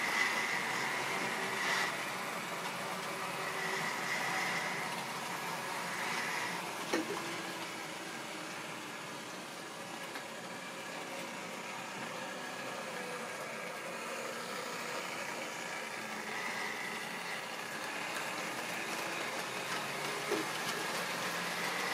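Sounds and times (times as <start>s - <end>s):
model train motors whirring: 0.0s - 21.9s.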